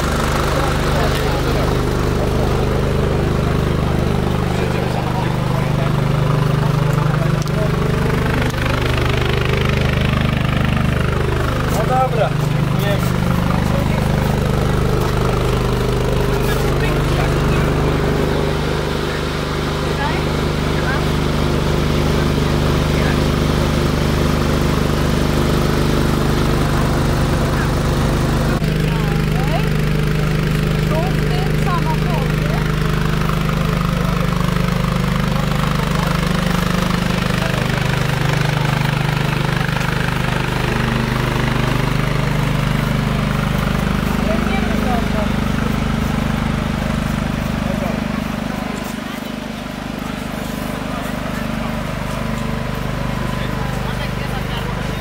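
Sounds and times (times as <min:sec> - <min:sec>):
heavy vehicle engine idling: 0:00.0 - 0:55.0.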